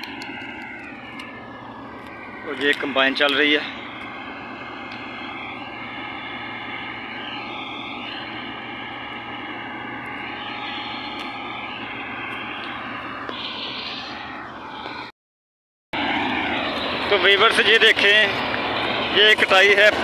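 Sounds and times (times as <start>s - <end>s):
combine harvester drone: 0.0s - 15.1s, 16.0s - 20.0s.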